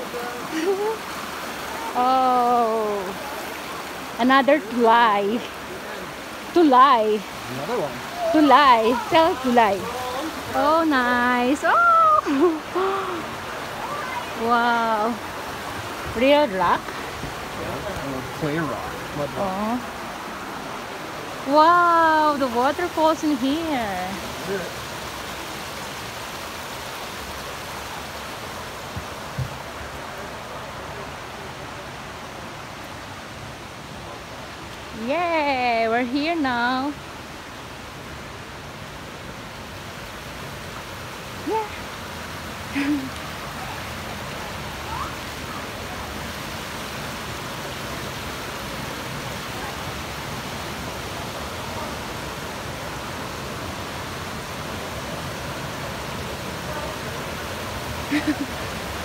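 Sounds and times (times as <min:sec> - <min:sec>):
creek and waterfall rushing: 0:00.0 - 0:59.0.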